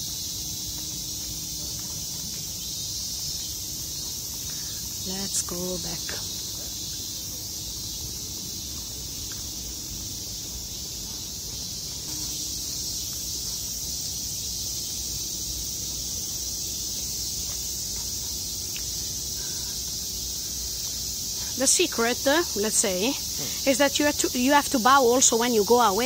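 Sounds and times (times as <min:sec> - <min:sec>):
cicadas buzzing: 0:00.0 - 0:26.0.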